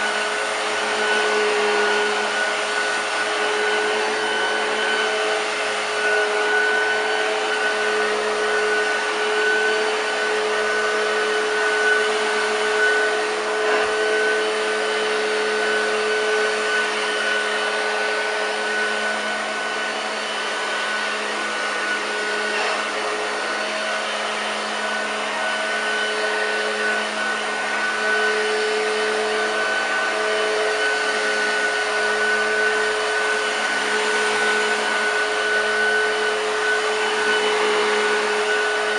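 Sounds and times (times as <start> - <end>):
upright vacuum cleaner running: 0.0 - 38.9.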